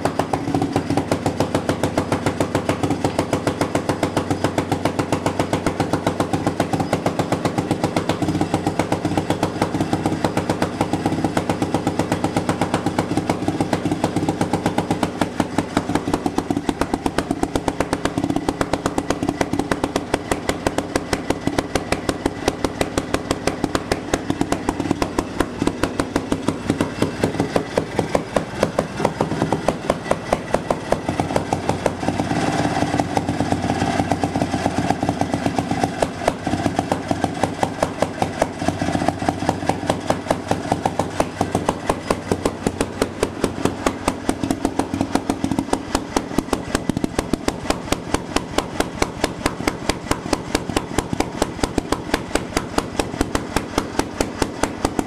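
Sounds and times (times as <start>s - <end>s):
two-stroke engine banging: 0.0s - 55.0s.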